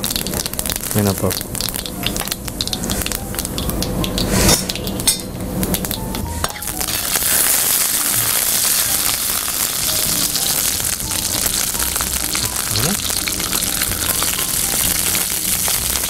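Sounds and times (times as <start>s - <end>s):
seeds frying in hot oil: 0.0s - 16.0s.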